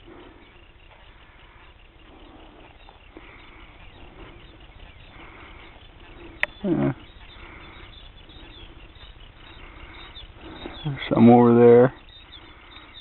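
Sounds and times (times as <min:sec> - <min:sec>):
faint animal calls: 0:00.0 - 0:13.0.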